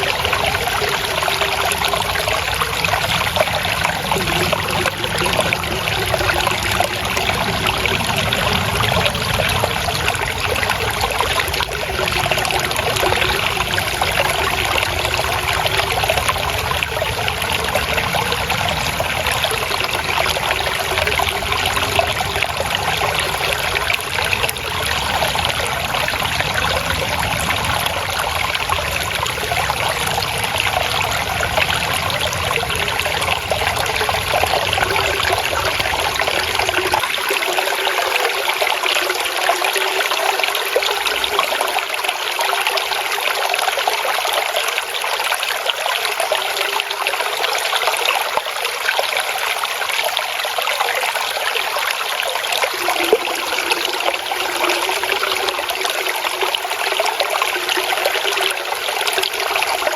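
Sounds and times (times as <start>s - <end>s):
water trickling and babbling: 0.0s - 59.9s.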